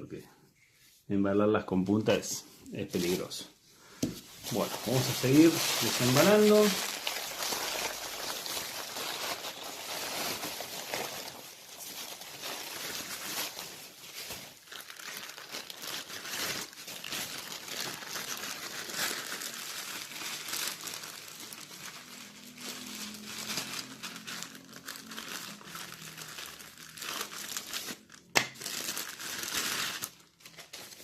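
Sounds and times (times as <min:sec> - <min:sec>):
plastic packaging crinkling: 0:02.9 - 0:03.5, 0:04.2 - 0:31.0.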